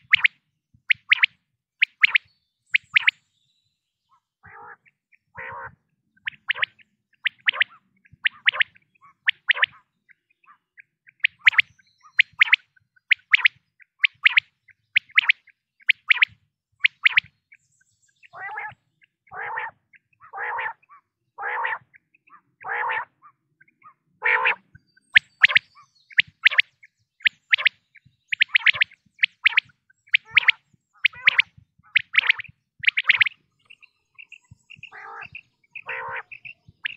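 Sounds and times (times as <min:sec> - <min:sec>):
quail calls: 0:00.9 - 0:03.1, 0:04.1 - 0:17.3, 0:18.3 - 0:36.9.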